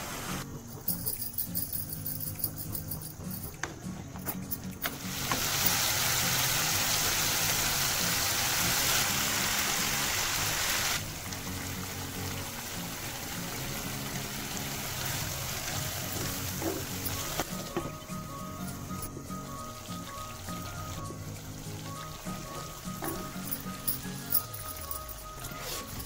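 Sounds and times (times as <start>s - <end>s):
background music: 0.0s - 26.0s
meat sizzling in oil: 4.8s - 26.0s.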